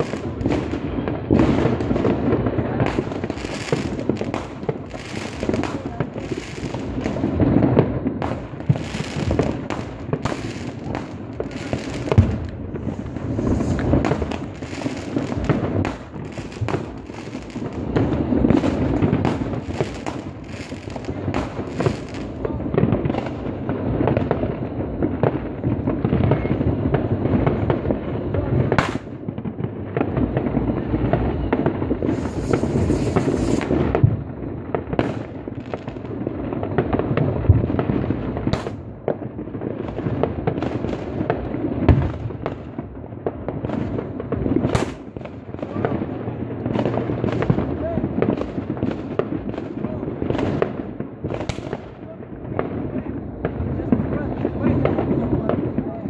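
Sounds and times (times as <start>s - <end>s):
fireworks rumble and crackling: 0.0s - 56.0s
sharp firecracker bangs: 0.0s - 56.0s.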